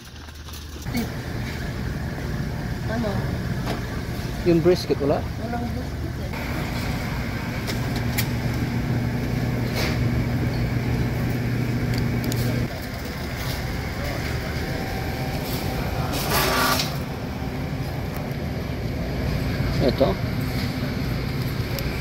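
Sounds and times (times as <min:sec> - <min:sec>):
refrigerated display case humming: 0:00.0 - 0:22.0.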